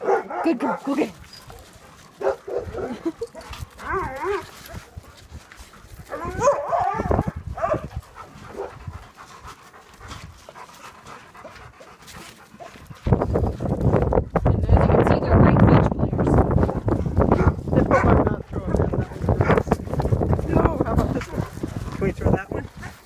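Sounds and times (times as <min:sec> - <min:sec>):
dogs panting: 0:00.0 - 0:23.0.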